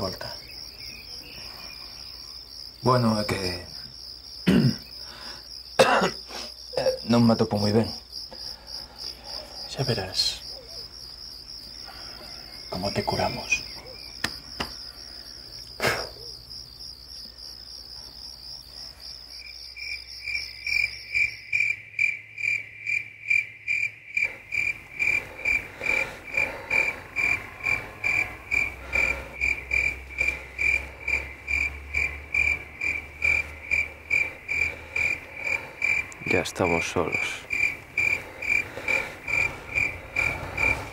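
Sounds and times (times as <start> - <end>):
cricket chirping evenly: 0.0 - 40.9
crickets trilling: 0.0 - 40.9.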